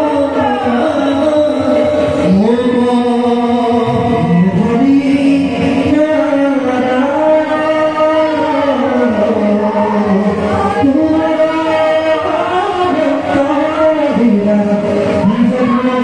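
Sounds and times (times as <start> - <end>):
person singing chant-like notes: 0.0 - 16.0.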